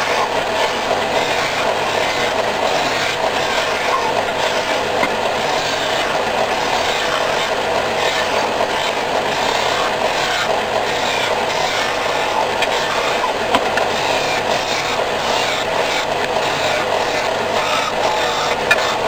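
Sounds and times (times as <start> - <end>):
disc sander running: 0.0 - 19.0
wood blocks against sanding disc: 0.0 - 19.0.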